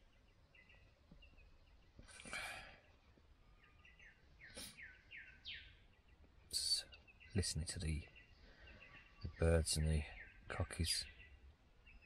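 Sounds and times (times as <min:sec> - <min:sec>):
thin bird chirps: 0:00.0 - 0:12.0.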